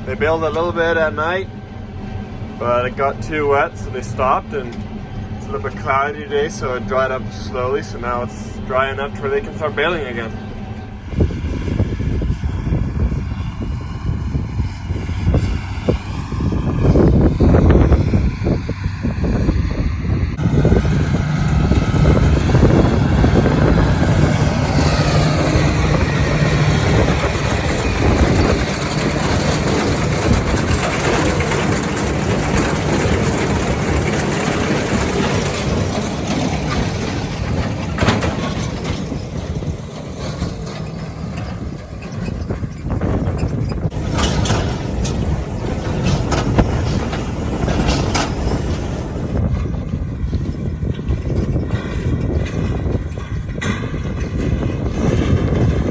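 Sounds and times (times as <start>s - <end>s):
tractor pulling hay baler: 0.0s - 55.9s.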